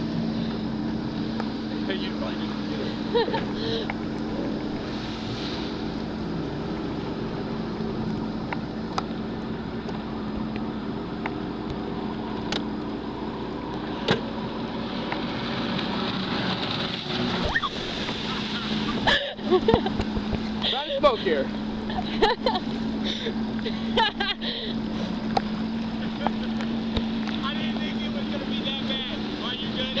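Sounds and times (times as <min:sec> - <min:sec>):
jet ski engine droning: 0:00.0 - 0:30.0
water rushing and splashing: 0:00.0 - 0:30.0.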